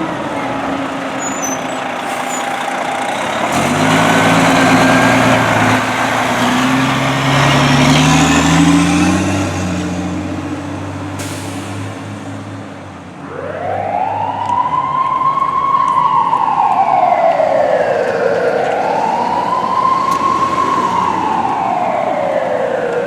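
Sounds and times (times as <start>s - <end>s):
fire engine siren wailing: 0.0s - 11.6s, 12.7s - 23.0s.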